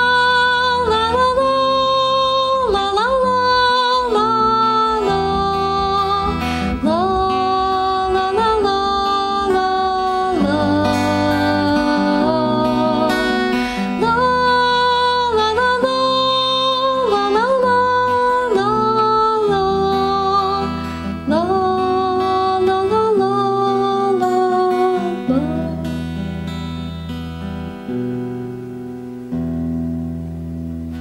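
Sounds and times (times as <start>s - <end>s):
woman singing: 0.0s - 27.0s
strummed acoustic guitar: 0.0s - 31.0s.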